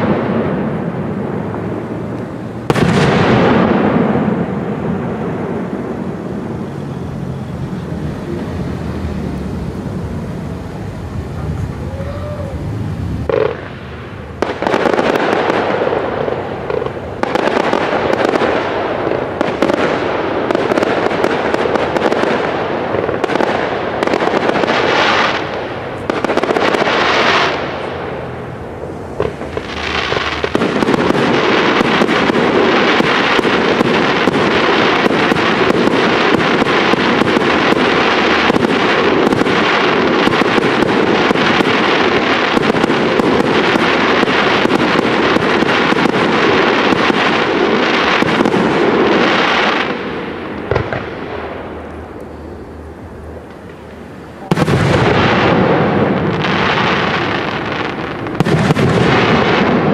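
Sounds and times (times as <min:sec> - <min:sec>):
firework shell bursts and crackle: 0:00.0 - 0:59.9
hissing fireworks: 0:00.0 - 0:59.9.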